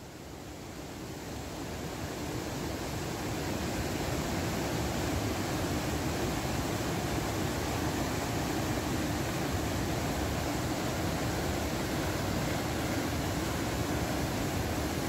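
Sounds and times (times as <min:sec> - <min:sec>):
white water rushing over rocks: 0:00.3 - 0:15.0.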